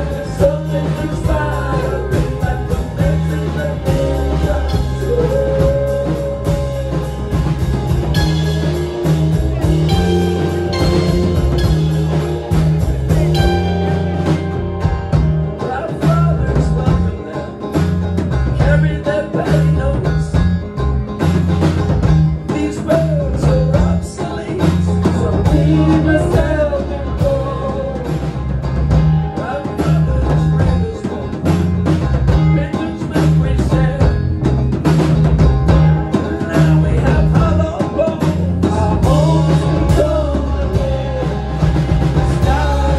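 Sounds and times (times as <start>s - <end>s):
man singing: 0.0s - 20.7s, 22.4s - 34.5s, 35.7s - 42.9s
banjo: 0.0s - 42.9s
bass: 0.0s - 42.9s
drum kit: 0.0s - 42.9s
electric guitar: 0.0s - 42.9s.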